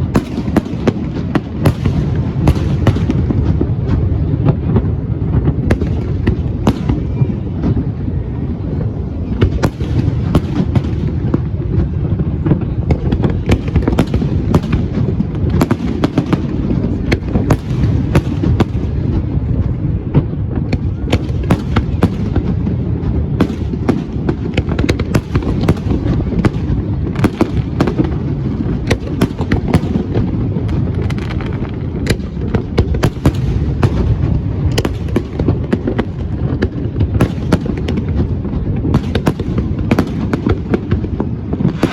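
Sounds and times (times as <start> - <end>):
fireworks bangs and cracks: 0.0 - 41.9.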